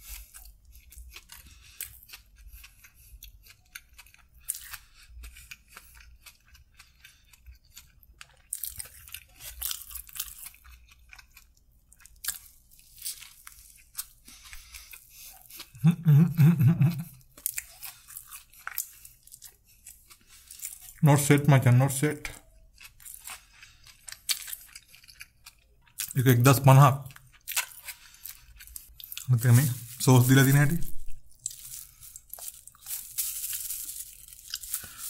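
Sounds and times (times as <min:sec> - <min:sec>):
crunchy chewing: 0:00.0 - 0:21.0, 0:22.1 - 0:35.0.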